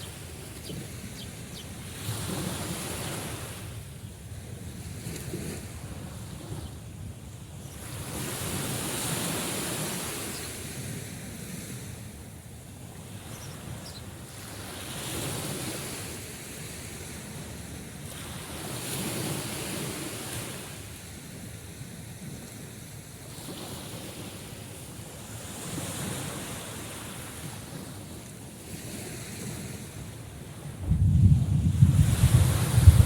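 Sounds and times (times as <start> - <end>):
sea waves breaking on shore: 0.0 - 33.0.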